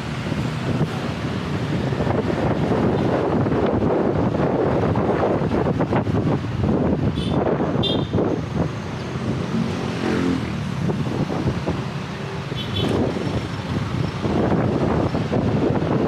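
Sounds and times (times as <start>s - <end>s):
road traffic rumble: 0.0s - 16.0s
wind buffeting microphone: 0.0s - 16.0s.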